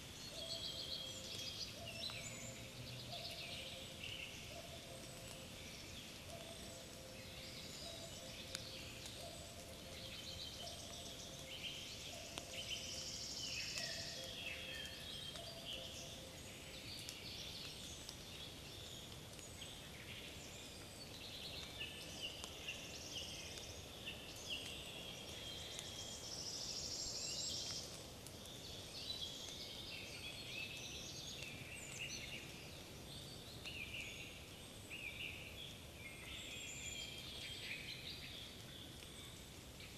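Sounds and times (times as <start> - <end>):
small birds singing and calling: 0.0 - 39.9
wind in trees: 0.0 - 39.9.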